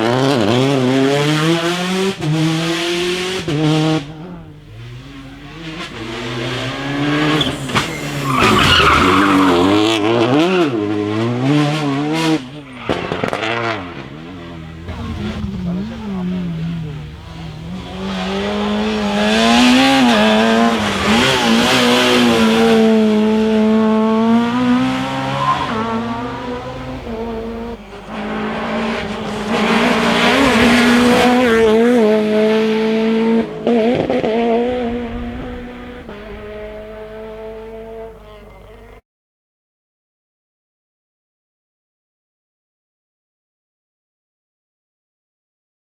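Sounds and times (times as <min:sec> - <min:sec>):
rally car engine at full throttle: 0:00.0 - 0:39.0.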